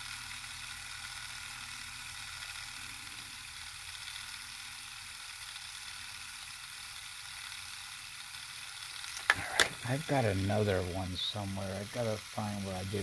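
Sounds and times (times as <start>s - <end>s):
magnet motor whining hum: 0.0s - 13.0s.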